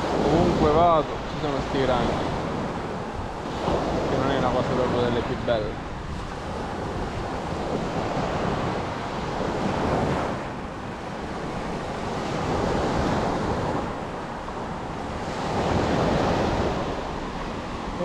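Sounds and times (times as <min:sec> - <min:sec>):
sea surf washing onto shore: 0:00.0 - 0:18.0
wind buffeting microphone: 0:00.0 - 0:18.0.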